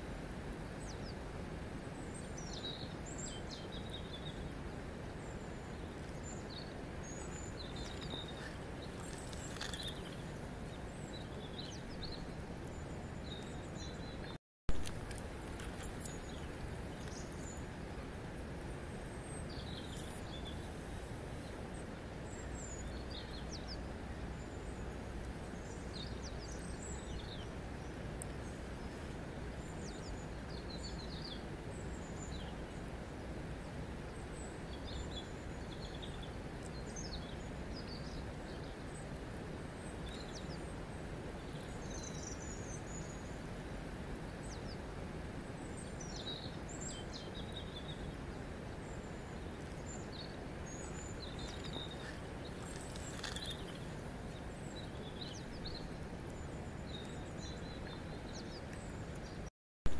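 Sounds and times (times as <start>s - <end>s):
small birds chirping: 1.9s - 14.4s, 15.0s - 18.0s, 19.0s - 20.8s, 21.4s - 32.8s, 34.1s - 43.5s, 45.6s - 59.5s.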